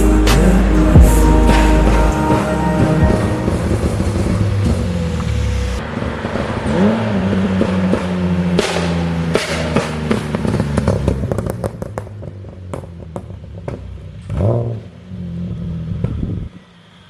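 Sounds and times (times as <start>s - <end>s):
exhaust crackling and popping: 0.0s - 16.5s
car engine revving: 0.0s - 17.0s.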